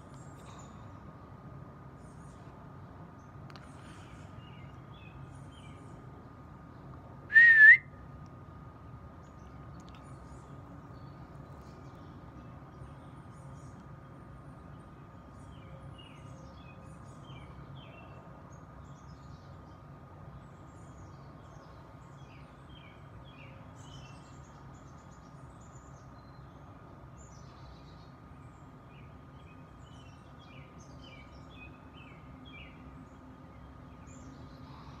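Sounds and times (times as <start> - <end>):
small birds chirping: 0.0 - 7.2, 8.2 - 35.0.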